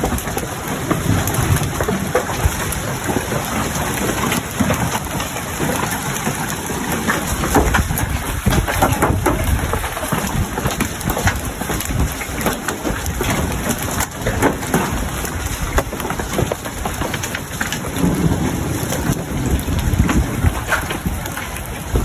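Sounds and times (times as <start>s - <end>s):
hail pattering: 0.0s - 22.0s.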